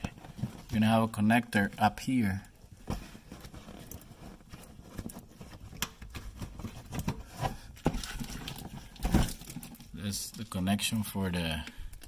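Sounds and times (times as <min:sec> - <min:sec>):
rustling: 0:00.0 - 0:11.2.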